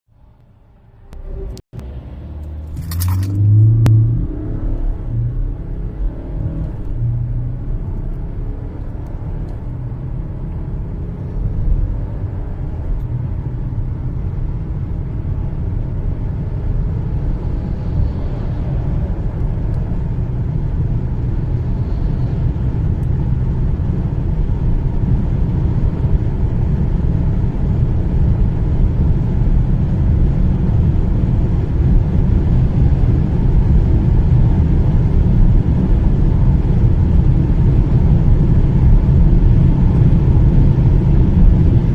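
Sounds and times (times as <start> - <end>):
road noise: 0.1 - 41.9
diesel engine at full throttle: 0.3 - 41.9.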